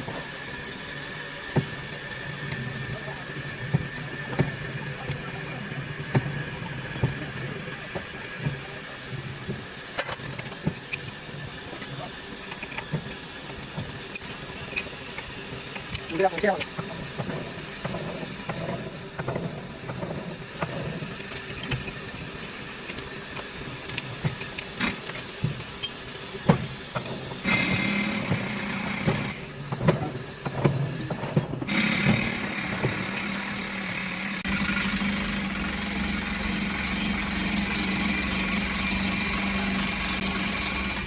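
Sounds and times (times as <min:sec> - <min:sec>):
engine starting and running: 0:00.0 - 0:41.0.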